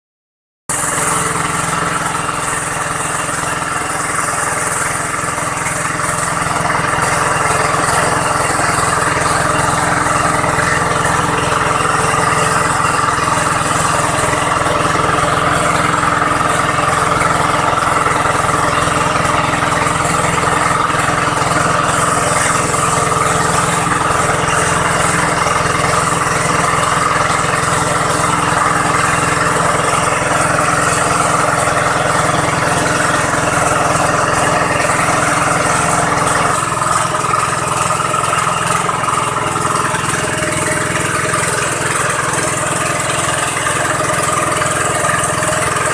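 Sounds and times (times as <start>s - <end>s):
engine idling: 0.7s - 45.9s.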